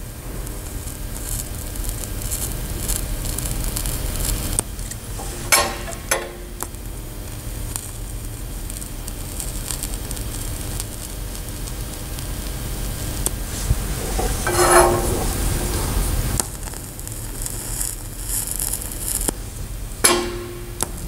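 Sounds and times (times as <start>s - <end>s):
welding arc hiss and sizzle: 0.0s - 21.0s.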